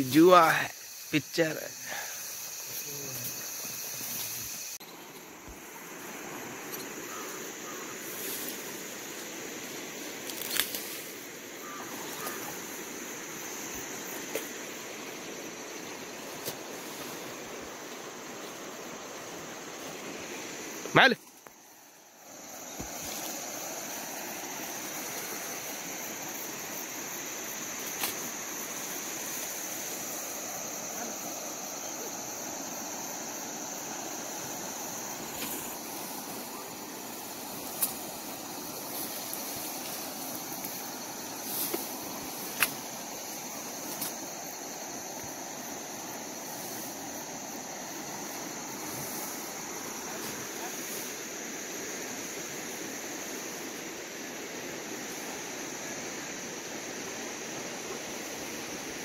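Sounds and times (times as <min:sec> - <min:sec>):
high insect drone: 0:00.0 - 0:59.0
river water running over stones: 0:02.3 - 0:59.0.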